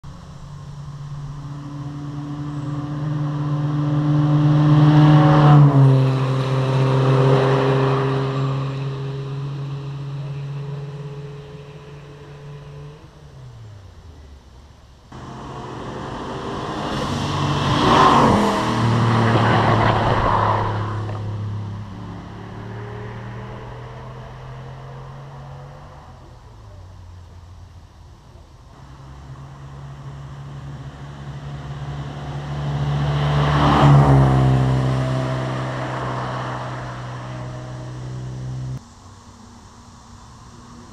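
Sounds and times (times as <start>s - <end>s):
sports car engine passing by: 0.1s - 27.6s, 28.4s - 40.9s.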